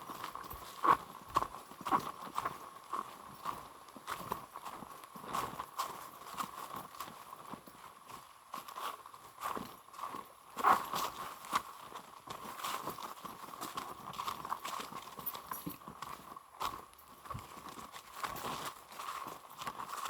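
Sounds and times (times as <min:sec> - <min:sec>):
footsteps on a trail: 0:00.0 - 0:20.0.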